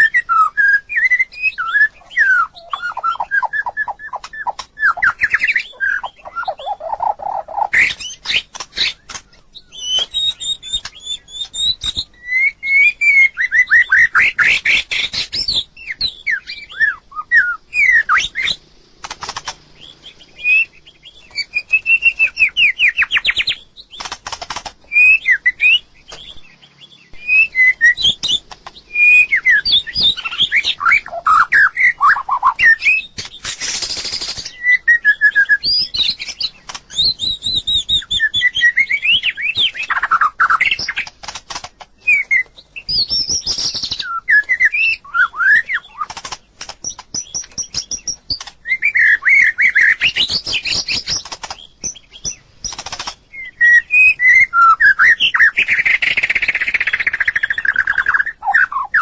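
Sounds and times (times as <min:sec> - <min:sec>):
bird singing whistled phrases: 0:00.0 - 0:18.6, 0:19.8 - 0:24.1, 0:24.9 - 0:41.1, 0:42.0 - 0:46.1, 0:46.9 - 0:59.0.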